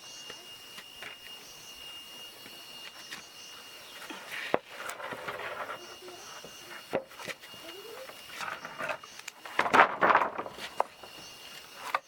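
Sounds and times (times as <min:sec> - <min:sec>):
steady high-pitched tone: 0:00.0 - 0:09.6, 0:10.4 - 0:12.0.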